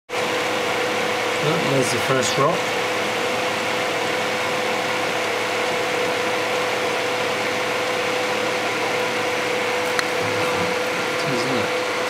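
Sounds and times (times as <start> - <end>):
machinery drone: 0.1 - 12.0.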